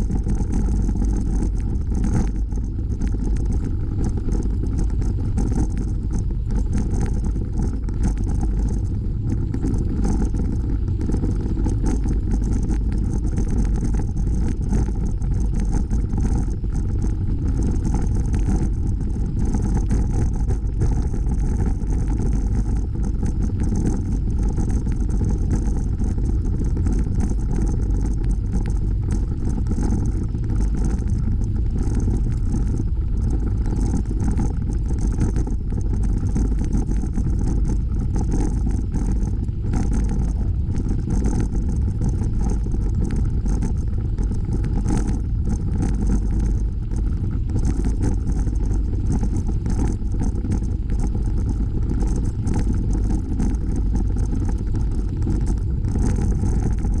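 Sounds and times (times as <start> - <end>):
bicycle tyres rolling on asphalt: 0.0 - 53.0.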